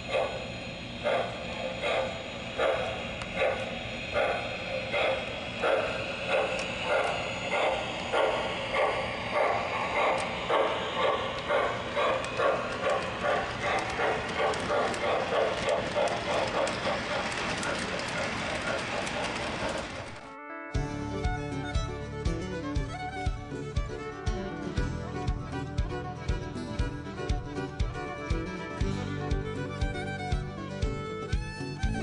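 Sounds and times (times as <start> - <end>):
model steam locomotive chuffing: 0.0 - 20.3, 24.7 - 32.0.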